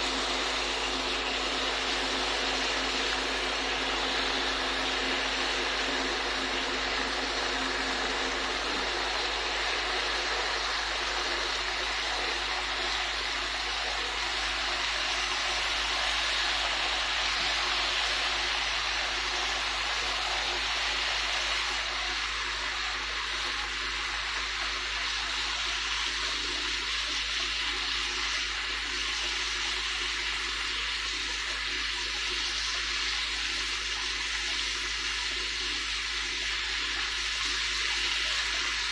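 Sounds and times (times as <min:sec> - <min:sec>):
pork sizzling in a frying pan: 0:00.0 - 0:38.9.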